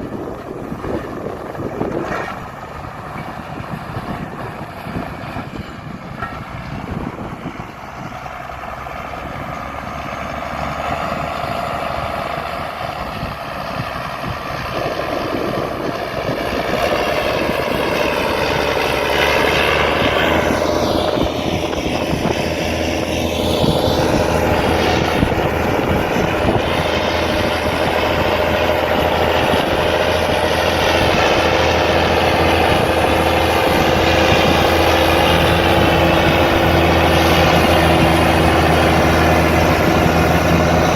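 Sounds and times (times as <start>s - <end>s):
tractor engine under load: 0.0s - 40.9s.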